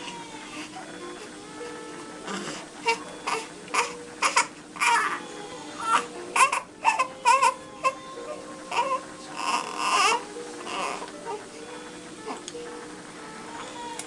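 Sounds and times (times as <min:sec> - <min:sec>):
baby crying: 0:00.0 - 0:12.4
quiet background music: 0:00.0 - 0:14.0.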